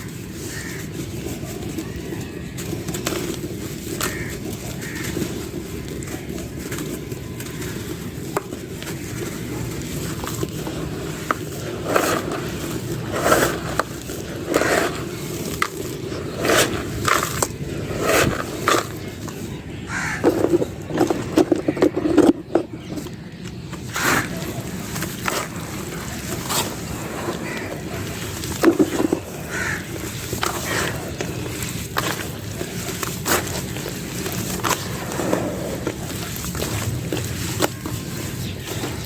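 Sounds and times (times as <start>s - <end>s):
dry clay crunching and cracking: 0.0s - 39.0s.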